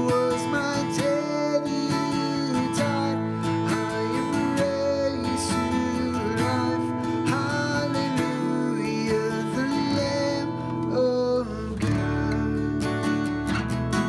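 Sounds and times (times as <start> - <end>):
person singing: 0.0 - 13.4
strummed acoustic guitar: 0.0 - 14.0.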